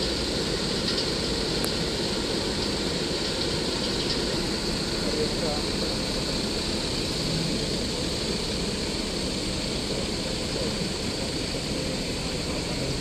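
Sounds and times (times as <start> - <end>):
continuous high hiss: 0.0 - 13.0.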